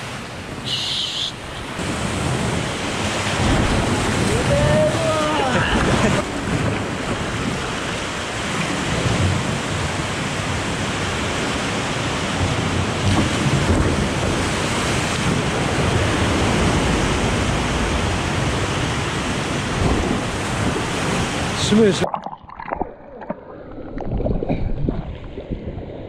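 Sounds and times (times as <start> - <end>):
waves splashing against seawall: 0.0 - 23.6.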